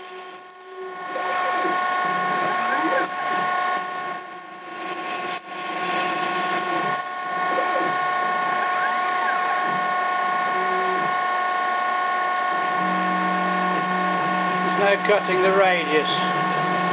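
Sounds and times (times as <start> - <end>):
cutting tool high thin tone: 0.0 - 16.9
lathe spindle whine: 0.0 - 16.9
stepper motors whining: 0.0 - 16.9.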